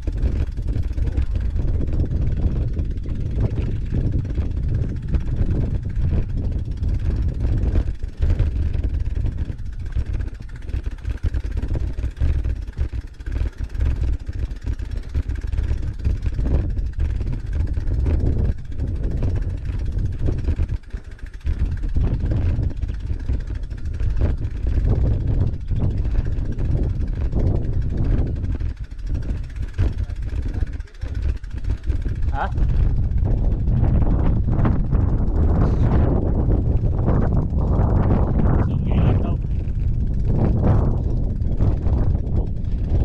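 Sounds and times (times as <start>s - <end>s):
bicycle tyres rolling on dirt: 0.0s - 43.0s
wind buffeting microphone: 0.0s - 43.0s.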